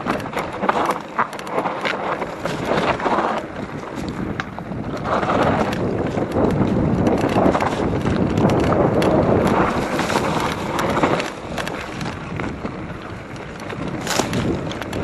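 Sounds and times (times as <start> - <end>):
bike rattling and knocking: 0.0 - 15.0
bike tyres over dirt and rocks: 0.0 - 15.0
wind on microphone: 0.0 - 15.0.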